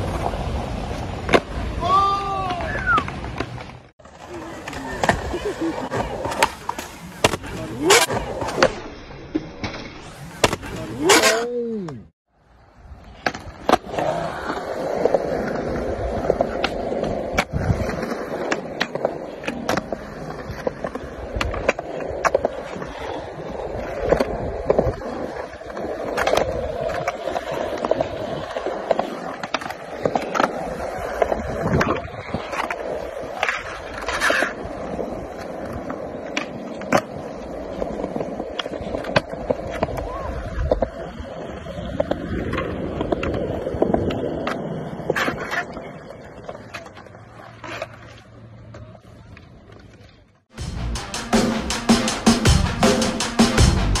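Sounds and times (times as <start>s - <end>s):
skateboard clacks: 0.0s - 8.8s, 13.1s - 50.4s
skateboard wheels rolling on concrete: 0.0s - 54.0s.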